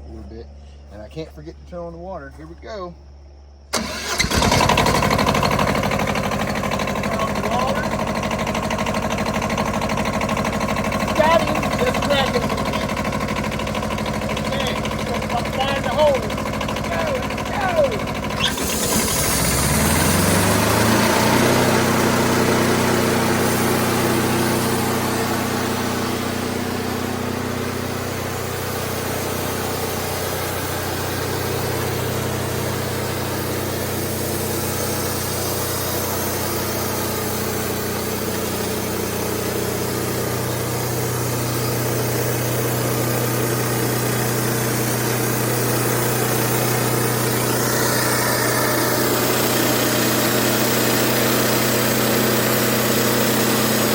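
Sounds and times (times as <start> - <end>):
diesel engine revving: 3.7 - 53.9.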